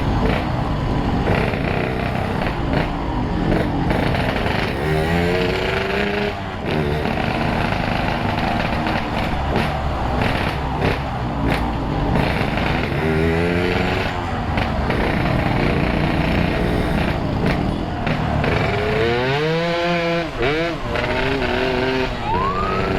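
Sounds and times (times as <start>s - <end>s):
two-stroke motorcycle engine revving: 0.0s - 22.9s.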